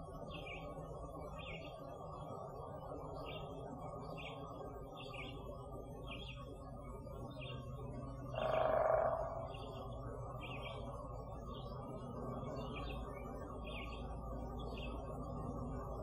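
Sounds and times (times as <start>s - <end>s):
low background noise: 0.0s - 16.0s
bird chirping: 0.2s - 1.9s, 3.1s - 6.5s, 7.2s - 16.0s.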